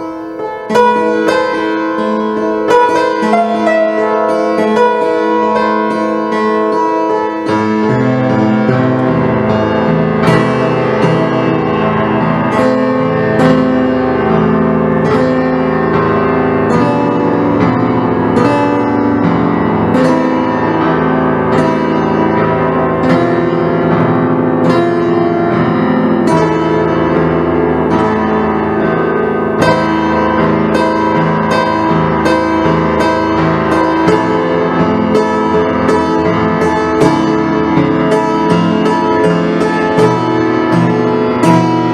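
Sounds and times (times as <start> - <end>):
keyboard music with piano notes: 0.0 - 41.9.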